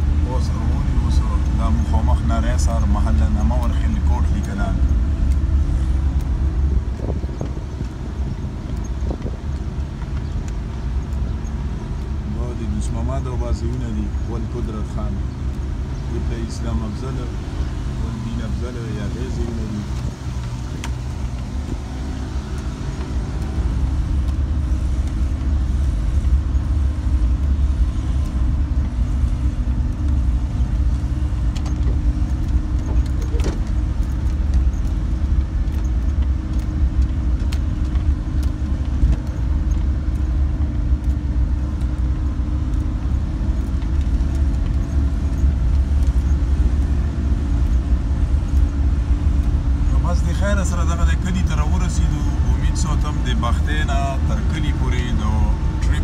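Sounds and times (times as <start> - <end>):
car engine and tyre rumble: 0.0 - 56.0
light ticks and rattles: 0.2 - 56.0.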